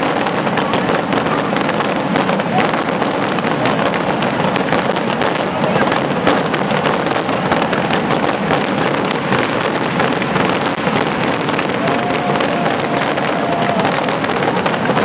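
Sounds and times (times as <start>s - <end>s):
skyrockets exploding: 0.0s - 15.0s.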